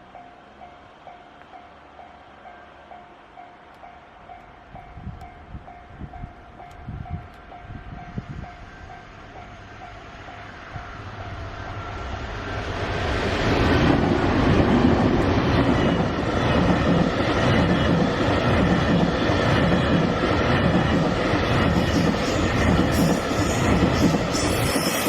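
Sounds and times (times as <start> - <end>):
electric freight train passing: 0.0 - 25.0
wheels rumbling on rails: 0.0 - 25.0.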